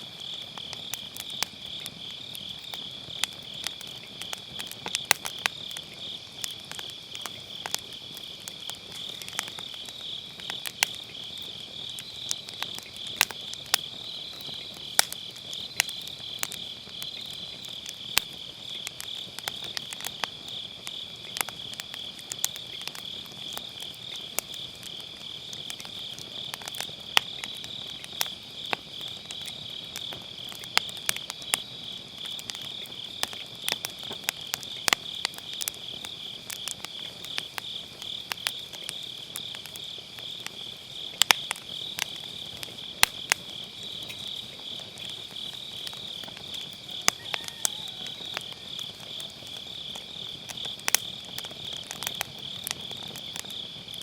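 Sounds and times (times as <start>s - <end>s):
firewood crackling and popping: 0.0s - 54.0s
insects chirping: 0.0s - 54.0s.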